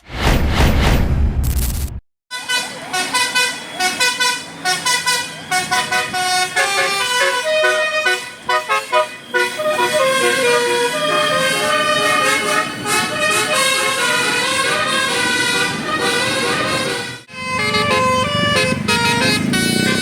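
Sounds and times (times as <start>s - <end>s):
musical bus horn playing tune: 2.3s - 20.0s.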